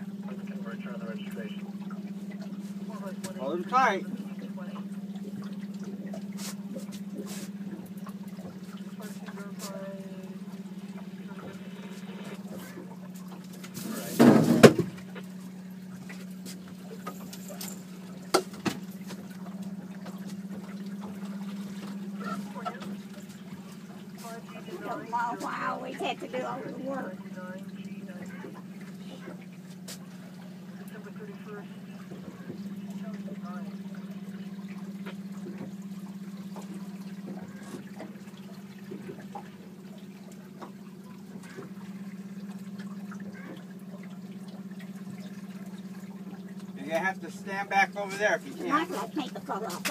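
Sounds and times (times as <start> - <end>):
faint water sounds: 0.0 - 49.9
outboard motor idling: 0.0 - 49.9.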